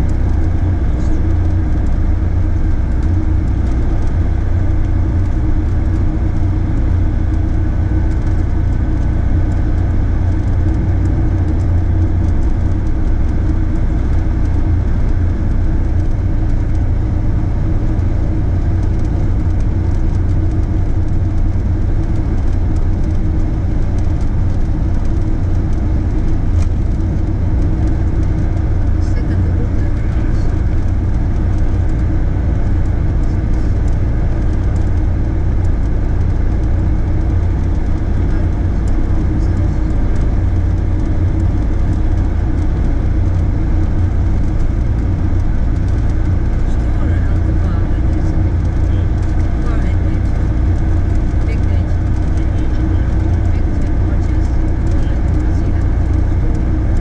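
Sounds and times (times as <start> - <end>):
low engine and road drone: 0.0 - 57.0.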